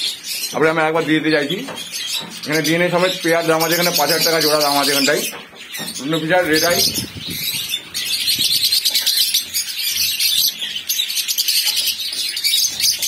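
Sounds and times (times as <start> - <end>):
lovebirds chattering: 0.0 - 13.0.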